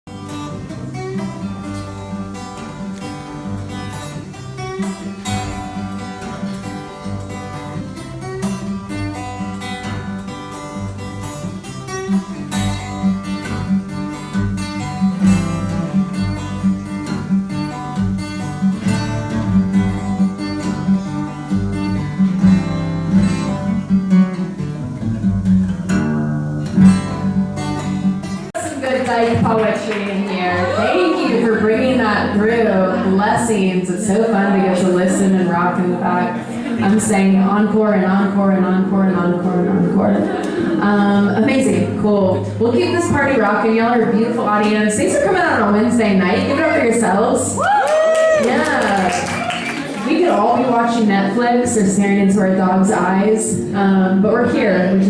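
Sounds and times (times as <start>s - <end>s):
acoustic guitar strummed and picked: 0.0s - 47.6s, 48.3s - 55.0s.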